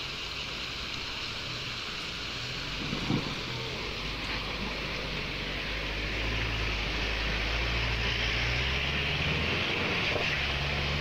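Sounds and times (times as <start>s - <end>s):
constant hiss: 0.0s - 11.0s
truck engine under load: 1.4s - 11.0s.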